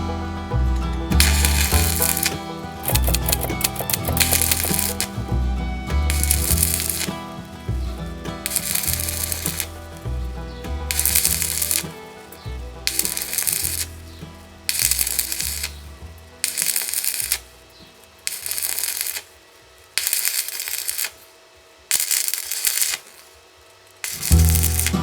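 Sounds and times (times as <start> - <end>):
welding arc crackling: 1.2 - 5.3, 6.1 - 25.0.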